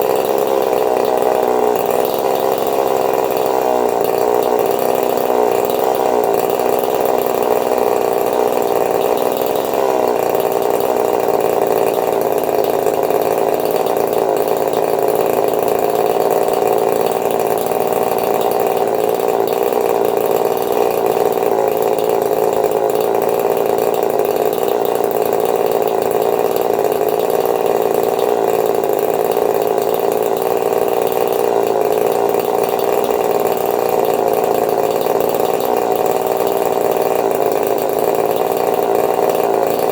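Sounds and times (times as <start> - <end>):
two-stroke chainsaw engine running: 0.0 - 39.9.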